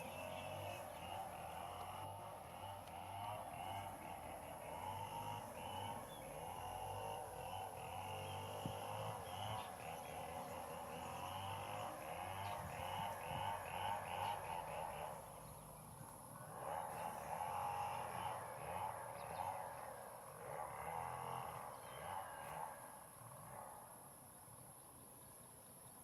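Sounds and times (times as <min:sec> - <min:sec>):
birds calling: 0:00.0 - 0:26.0
insects chorus: 0:00.0 - 0:26.0.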